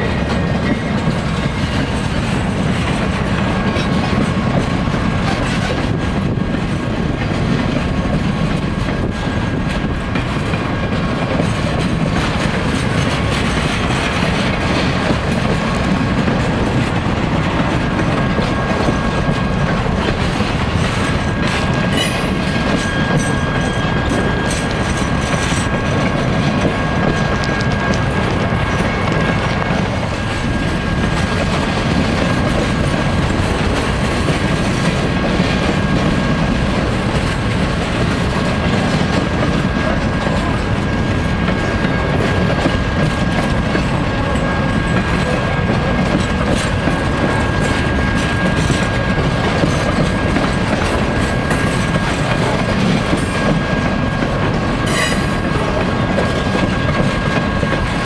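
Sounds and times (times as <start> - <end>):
train trailers rolling past: 0.0 - 58.0
wheels clicking over rail joints: 0.0 - 58.0.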